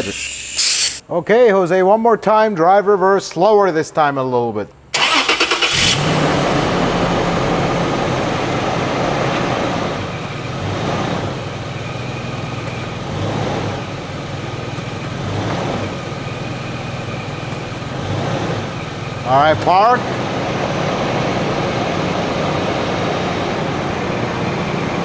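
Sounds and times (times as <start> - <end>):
car engine idling: 5.0 - 25.0.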